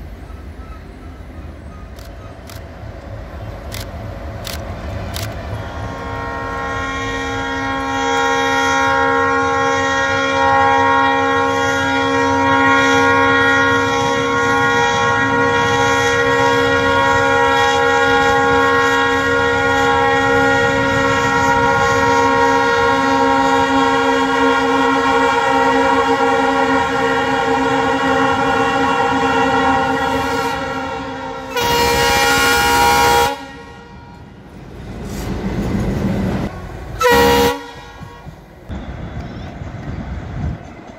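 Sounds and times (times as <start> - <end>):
locomotive rumbling over track: 0.0 - 40.9
locomotive horn blast: 4.4 - 34.4, 36.4 - 39.4.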